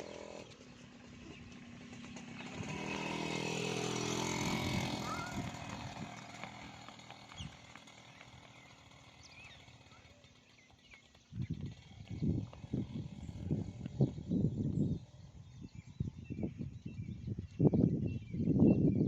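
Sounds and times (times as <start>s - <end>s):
motorcycle engine passing by: 0.0s - 17.2s.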